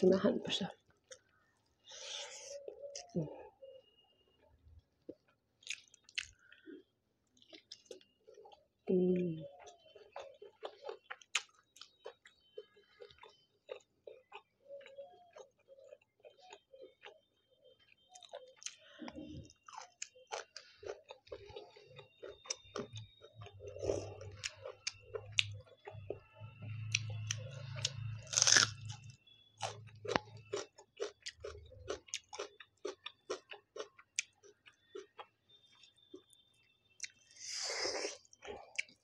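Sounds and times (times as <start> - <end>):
wet crunchy chewing: 0.9 - 39.0.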